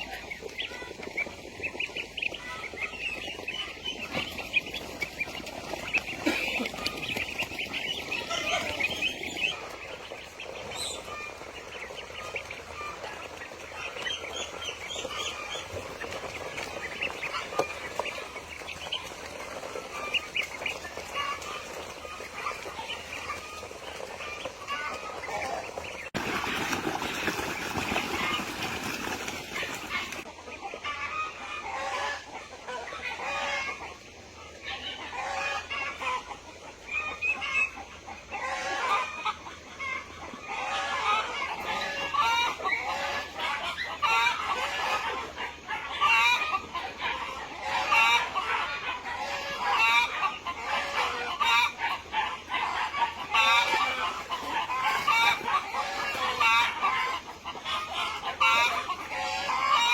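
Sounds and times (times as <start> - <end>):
chickens clucking and cackling: 0.0 - 59.9.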